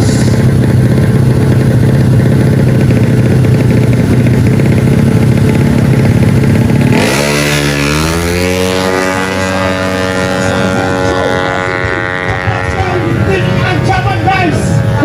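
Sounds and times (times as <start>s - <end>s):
scooter engine revving: 0.0s - 13.9s.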